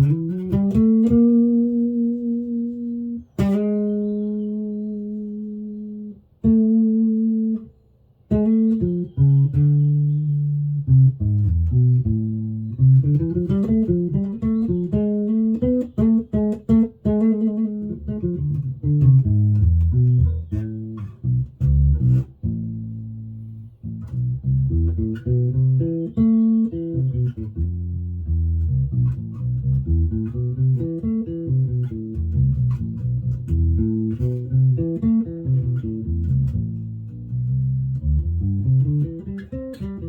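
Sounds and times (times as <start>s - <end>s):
electric bass plucked notes: 0.0s - 40.0s.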